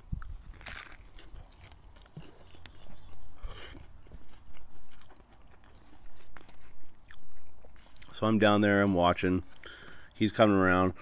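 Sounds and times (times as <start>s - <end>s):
soft chewing: 0.0s - 10.2s
taco shell crunching: 0.0s - 10.2s.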